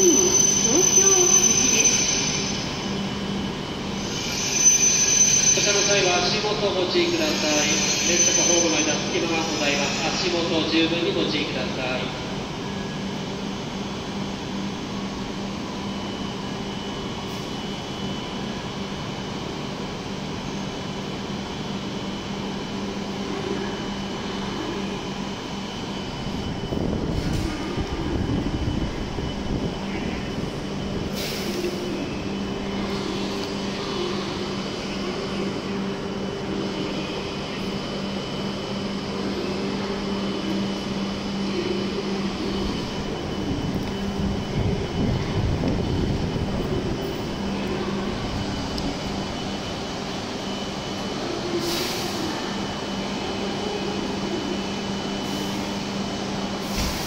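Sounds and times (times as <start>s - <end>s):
train equipment humming: 0.0s - 57.0s.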